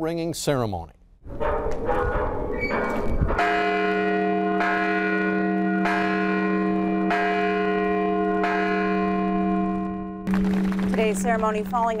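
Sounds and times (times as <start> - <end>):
large bell ringing: 1.4 - 12.0.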